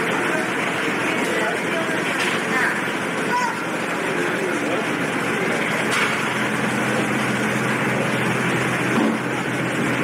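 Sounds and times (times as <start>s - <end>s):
ferry engine drone: 0.0s - 10.0s.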